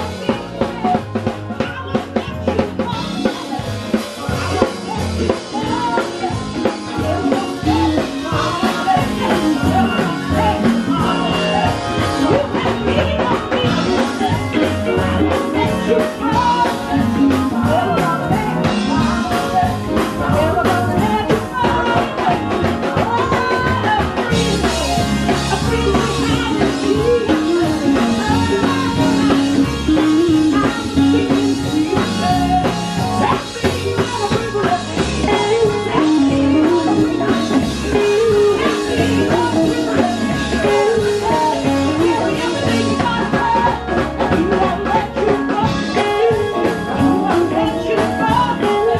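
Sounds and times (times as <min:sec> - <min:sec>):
drum kit: 0:00.0 - 0:48.9
electric bass guitar: 0:00.0 - 0:48.9
wavering melodic lead line: 0:00.0 - 0:48.9.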